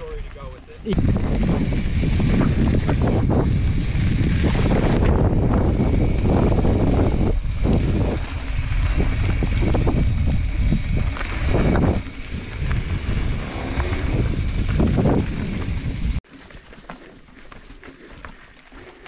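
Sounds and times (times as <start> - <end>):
wind rushing over microphone: 0.0 - 16.2.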